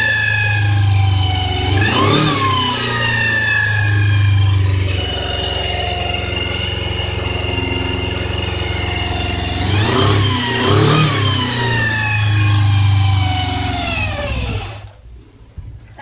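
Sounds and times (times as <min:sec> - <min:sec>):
motorcycle engine idling and revving: 0:00.0 - 0:15.1.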